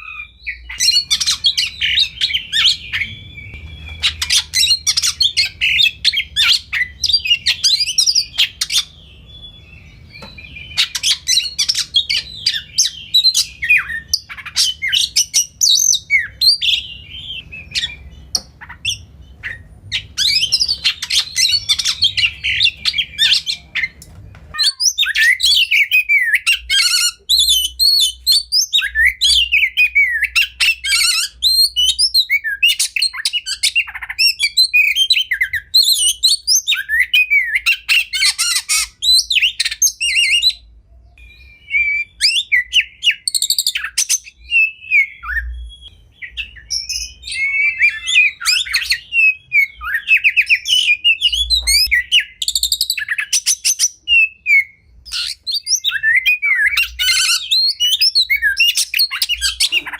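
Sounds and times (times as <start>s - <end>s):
low background hum: 0.0s - 59.9s
songbird singing whistled phrases: 0.0s - 59.9s.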